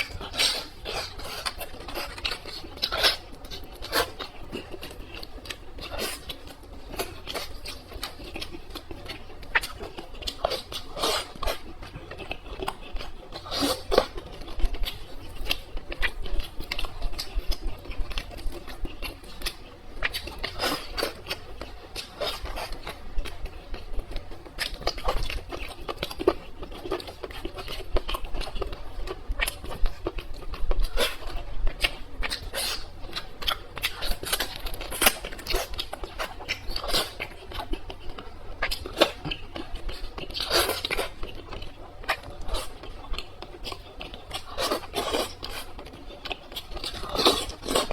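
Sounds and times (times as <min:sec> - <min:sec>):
chewing with wet mouth noises: 0:00.0 - 0:47.9.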